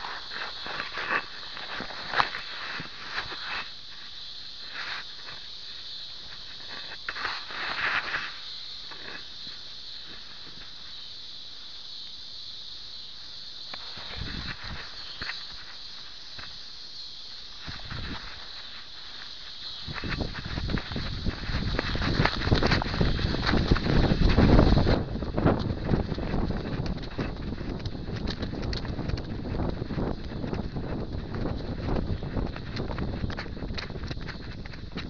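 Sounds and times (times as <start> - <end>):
grass rustling against camera: 0.0 - 35.0
steady high hiss: 0.0 - 35.0.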